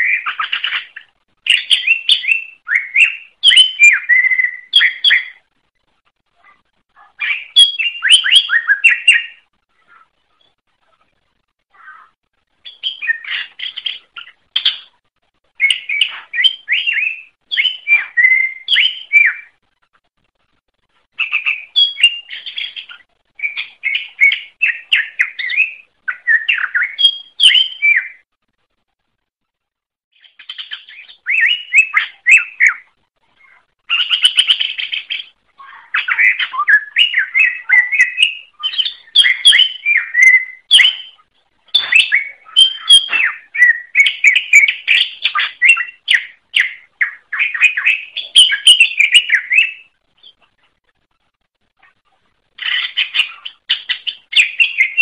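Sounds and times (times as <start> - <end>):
bird singing chirps and whistles: 0.0 - 5.4, 7.2 - 10.6, 12.6 - 14.9, 15.6 - 19.6, 21.2 - 28.2, 30.2 - 50.4, 52.6 - 55.0.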